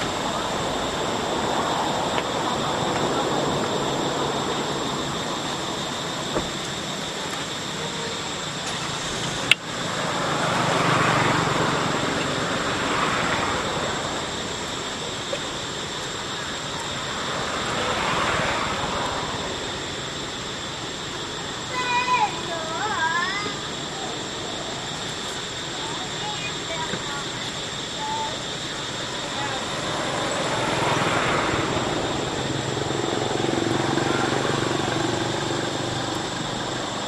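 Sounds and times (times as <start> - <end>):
broad hiss: 0.0 - 37.0.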